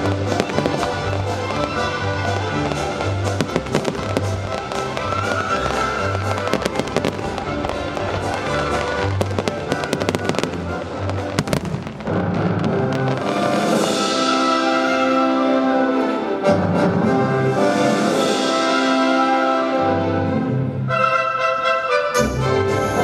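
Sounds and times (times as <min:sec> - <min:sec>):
fireworks bangs and crackling: 0:00.0 - 0:19.8.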